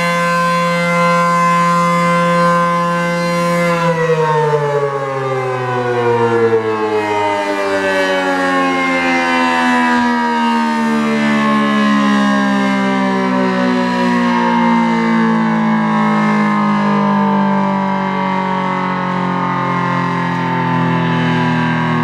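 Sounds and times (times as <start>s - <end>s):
warning siren falling in pitch: 0.0s - 22.0s.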